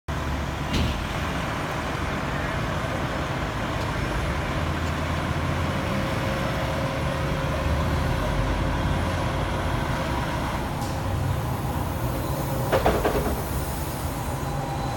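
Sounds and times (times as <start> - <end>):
heavy vehicle engine rumbling: 0.1 - 14.9.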